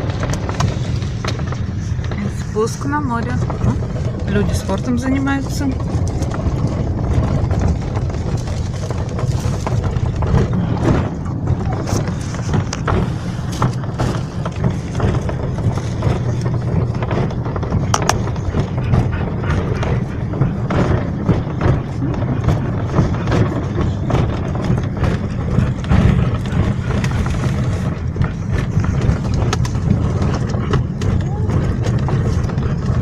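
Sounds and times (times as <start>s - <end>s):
engine and road rumble: 0.0s - 33.0s
small knocks and rattles: 0.0s - 33.0s.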